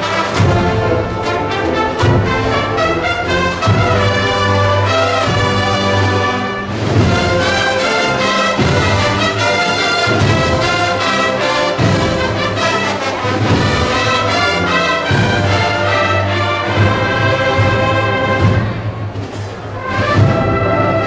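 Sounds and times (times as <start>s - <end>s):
brass band playing a march: 0.0s - 21.0s.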